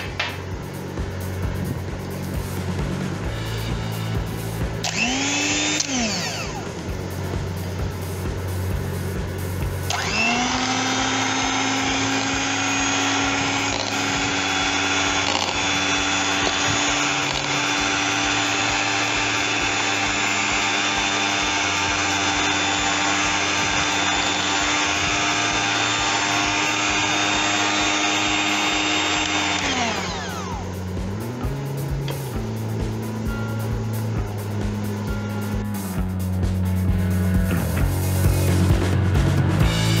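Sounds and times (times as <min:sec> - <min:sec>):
electric hand mixer whining: 0:00.0 - 0:36.1.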